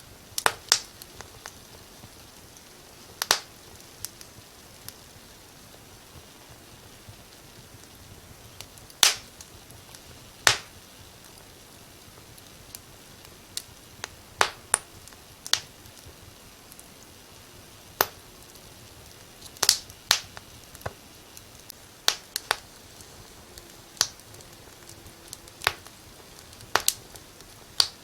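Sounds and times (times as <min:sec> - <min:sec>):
faint steady hiss: 0:00.0 - 0:28.0
fireplace fire crackling: 0:00.0 - 0:28.0.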